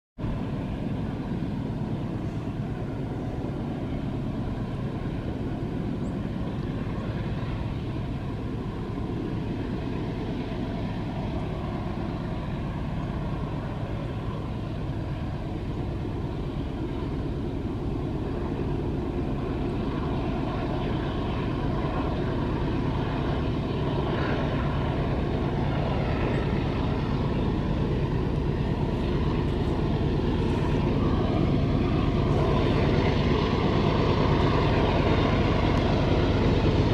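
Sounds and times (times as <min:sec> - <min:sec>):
locomotive engines droning: 0:00.2 - 0:36.9.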